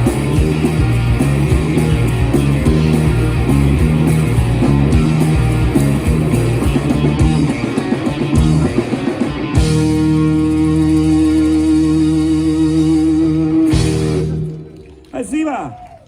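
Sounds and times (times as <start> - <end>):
blues-rock band playing: 0.0 - 15.1.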